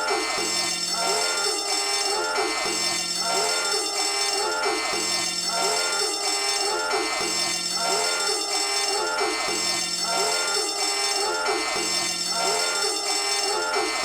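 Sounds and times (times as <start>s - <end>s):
looping electronic alarm notes: 0.0s - 14.0s.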